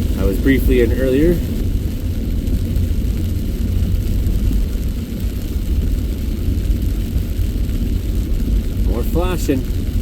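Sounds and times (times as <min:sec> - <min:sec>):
car driving in rain interior: 0:00.0 - 0:10.0.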